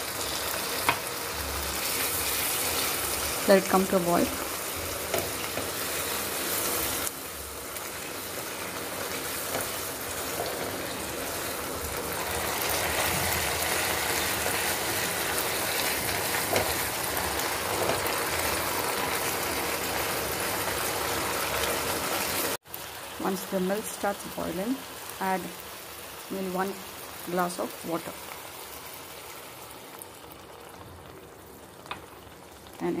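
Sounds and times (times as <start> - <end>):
curry sizzling and bubbling: 0.0 - 33.0.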